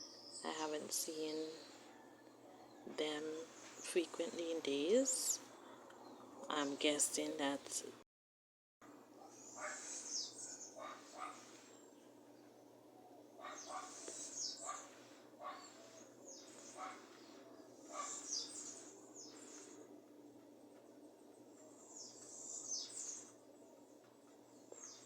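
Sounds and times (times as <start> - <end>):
small birds chirping: 0.0 - 7.9, 9.1 - 25.0.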